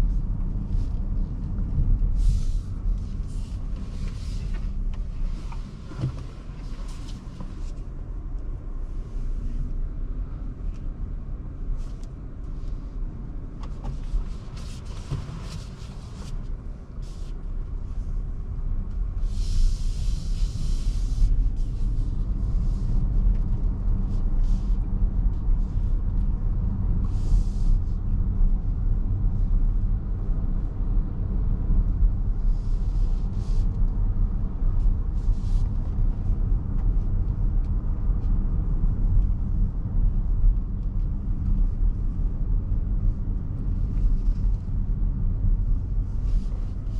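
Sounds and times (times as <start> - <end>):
road and tyre rumble: 0.0 - 46.9.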